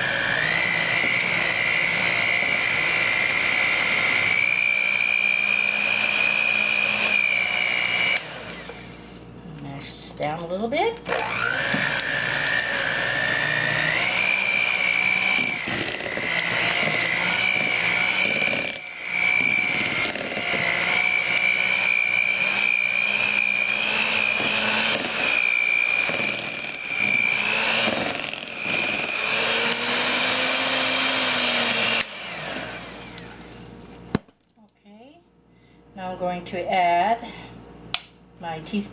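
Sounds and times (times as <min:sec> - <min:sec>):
electric hand mixer whining: 0:00.0 - 0:09.1, 0:11.1 - 0:33.7.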